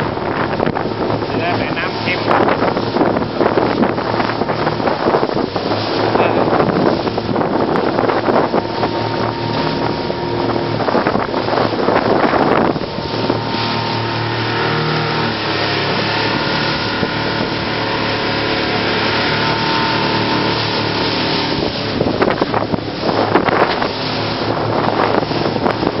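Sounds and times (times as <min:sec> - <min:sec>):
outboard motor running: 0:00.0 - 0:26.0
water rushing: 0:00.0 - 0:26.0
wind on microphone: 0:00.0 - 0:26.0.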